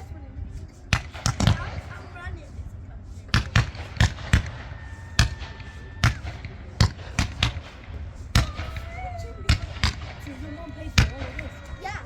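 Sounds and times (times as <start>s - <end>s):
fireworks popping: 0.9s - 2.6s, 3.2s - 12.0s.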